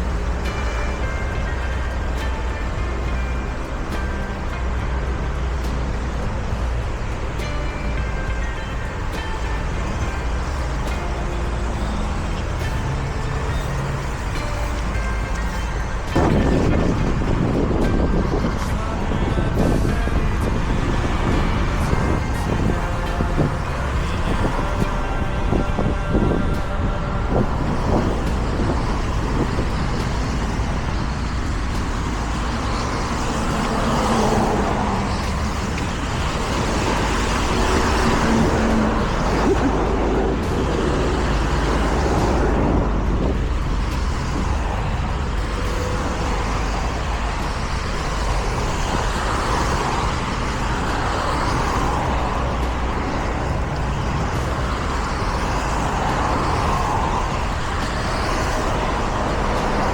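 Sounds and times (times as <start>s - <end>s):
low rumble of rushing air: 0.0s - 59.9s
motor vehicles passing: 0.0s - 59.9s.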